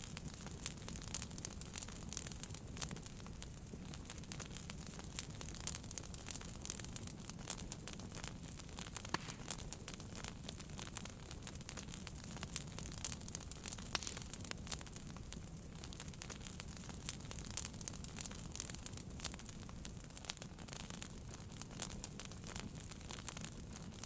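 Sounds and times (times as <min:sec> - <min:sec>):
low rumble of flame: 0:00.0 - 0:24.0
wood fire crackling and popping: 0:00.0 - 0:24.0.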